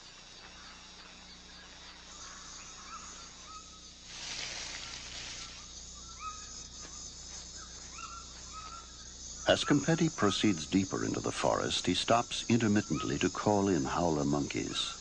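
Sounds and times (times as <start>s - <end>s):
insect hiss: 0.0s - 15.0s.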